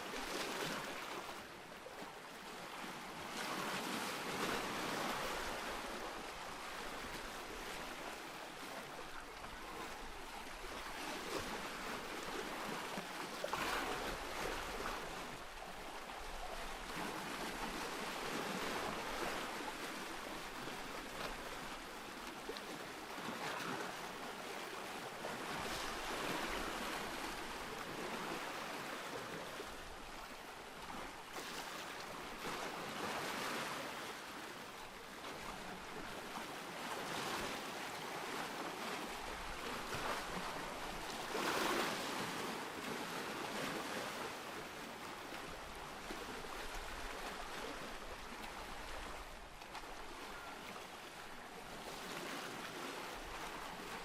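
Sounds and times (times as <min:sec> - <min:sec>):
ocean waves breaking: 0:00.1 - 0:54.0.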